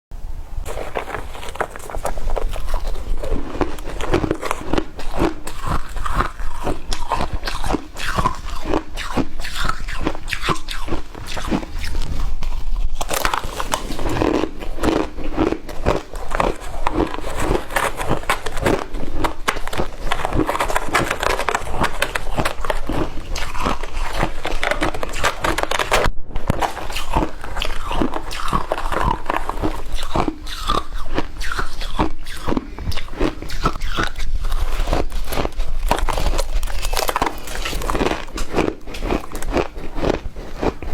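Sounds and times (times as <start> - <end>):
person crunching shaved ice: 0.6 - 40.9.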